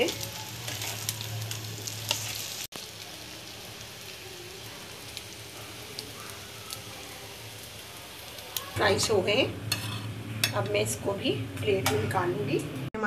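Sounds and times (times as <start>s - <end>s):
bread frying in oil sizzling: 0.0s - 12.9s.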